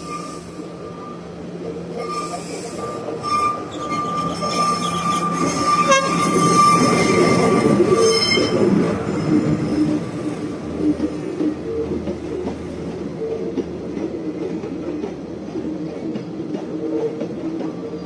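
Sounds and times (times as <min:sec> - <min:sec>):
train carriages rumbling: 0:00.0 - 0:18.0
train wheels squealing on rails: 0:00.0 - 0:18.0.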